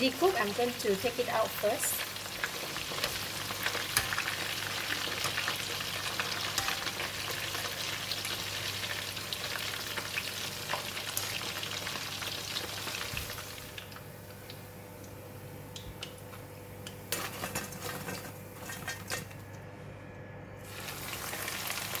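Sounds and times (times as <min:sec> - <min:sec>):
chicken deep-frying in oil: 0:00.0 - 0:19.6, 0:20.6 - 0:22.0.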